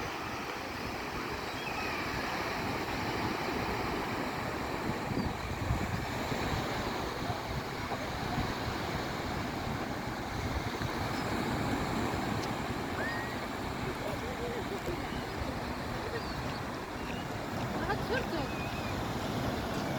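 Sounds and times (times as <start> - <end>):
surf washing on beach: 0.0 - 19.9
wind buffeting microphone: 0.0 - 19.9.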